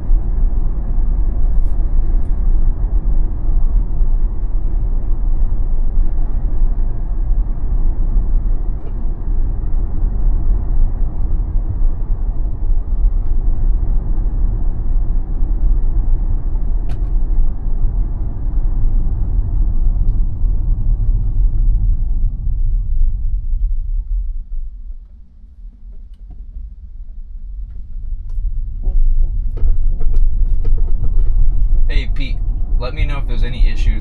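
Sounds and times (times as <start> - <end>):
road and tyre noise in a car: 0.0 - 34.0.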